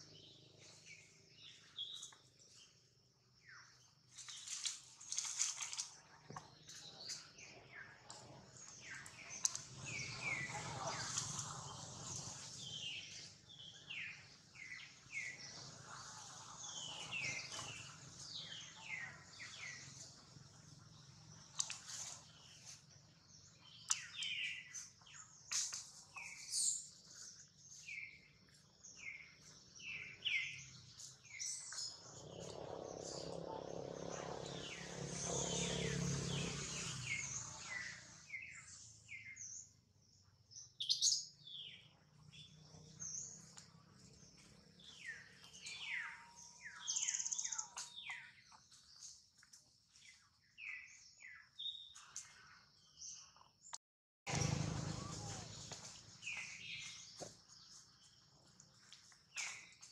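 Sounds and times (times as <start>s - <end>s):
birds chirping: 5.4s - 49.3s, 54.3s - 59.9s.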